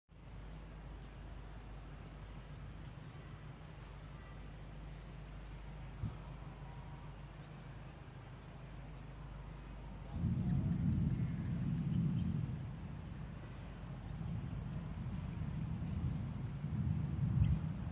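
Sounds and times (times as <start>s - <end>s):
low forest rumble: 0.1s - 17.9s
insects chirping: 0.2s - 17.9s.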